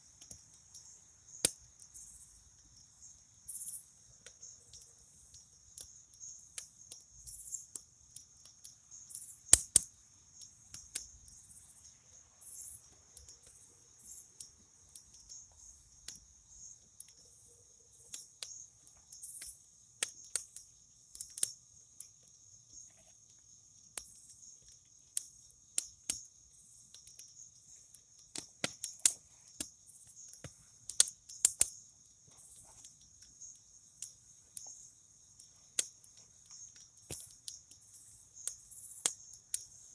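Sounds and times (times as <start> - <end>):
campfire crackling and popping: 0.0 - 11.4, 12.8 - 39.8
crickets chirping: 0.0 - 39.9.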